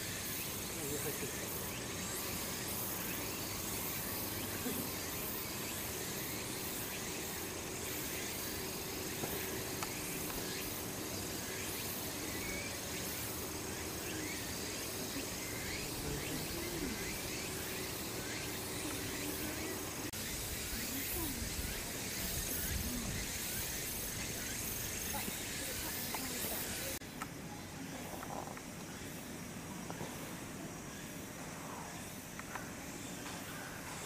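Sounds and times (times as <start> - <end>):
insects hissing: 0.0 - 34.0.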